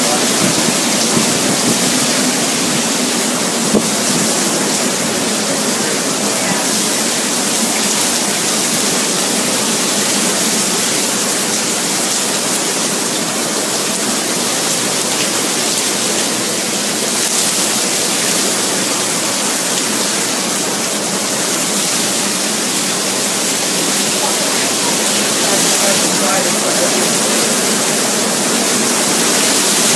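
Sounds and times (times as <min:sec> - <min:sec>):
strong wind and heavy rain: 0:00.0 - 0:29.9.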